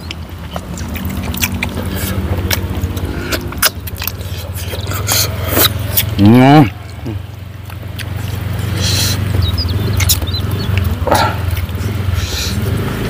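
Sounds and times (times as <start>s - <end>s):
wet chewing and lip smacks: 0.0s - 12.9s
low motor hum: 0.0s - 13.0s.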